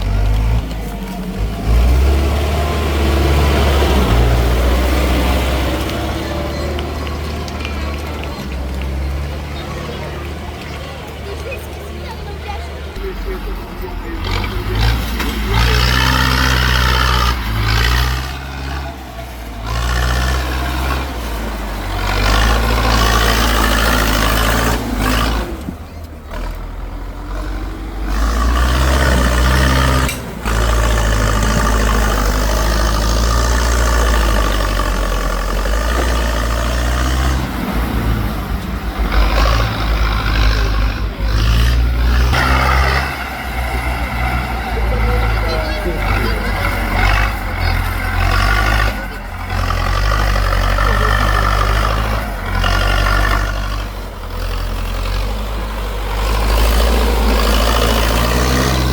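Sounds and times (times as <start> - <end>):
tractor engine revving: 0.0 - 58.9.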